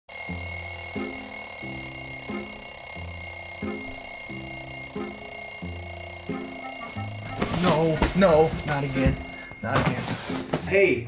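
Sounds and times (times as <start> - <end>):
alarm clock electronic tune: 0.1 - 9.8.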